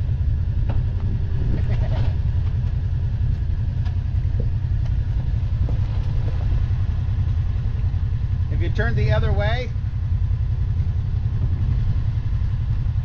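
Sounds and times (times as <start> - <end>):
engine rumbling at low throttle: 0.0 - 13.0.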